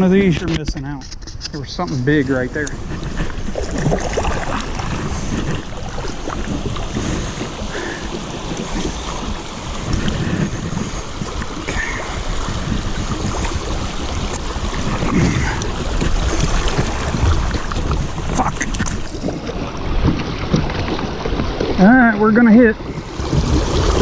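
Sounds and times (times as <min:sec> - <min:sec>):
wind noise on microphone: 0:00.0 - 0:24.0
river water splashing: 0:01.9 - 0:24.0.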